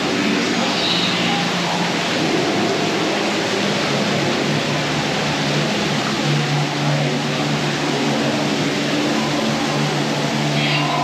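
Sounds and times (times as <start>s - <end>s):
low ambient held tones: 0.0s - 11.0s
waterfall rushing and splashing: 0.0s - 11.0s.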